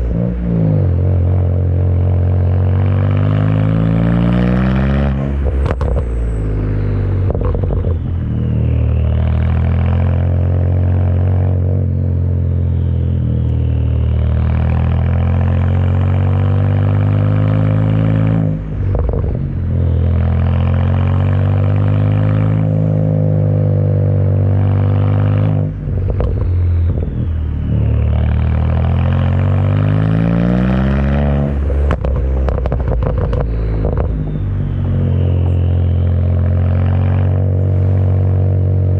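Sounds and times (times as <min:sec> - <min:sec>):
car engine under load: 0:00.0 - 0:38.9.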